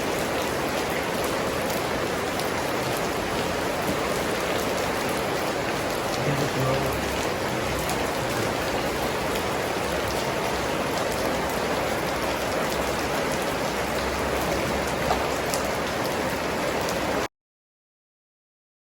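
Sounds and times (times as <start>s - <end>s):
rain pattering: 0.0s - 17.3s.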